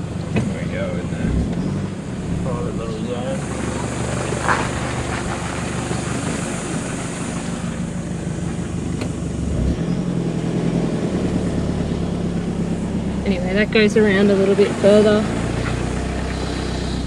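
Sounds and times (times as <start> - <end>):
vehicle engine driving slowly: 0.0 - 17.0.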